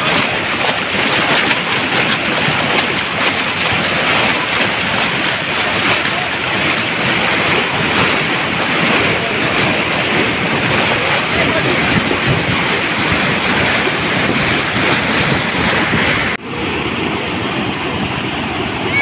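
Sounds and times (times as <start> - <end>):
torrent of rushing water: 0.0 - 19.0.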